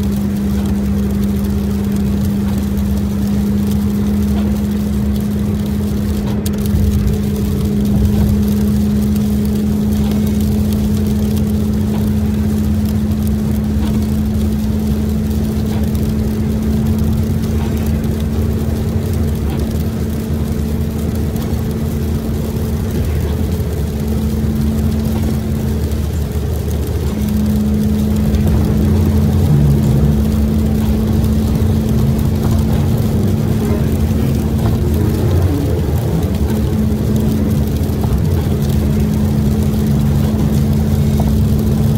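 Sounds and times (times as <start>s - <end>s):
constant hum: 0.0s - 41.9s
engine and tyre rumble: 0.0s - 41.9s.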